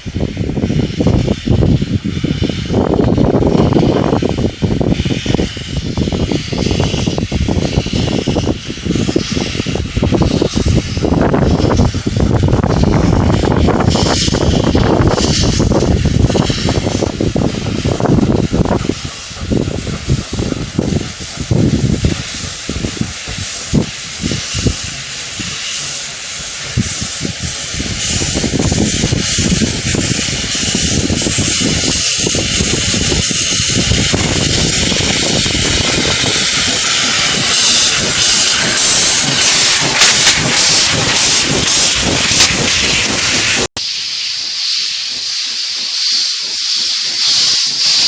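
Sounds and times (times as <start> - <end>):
steam hissing: 0.0 - 48.0.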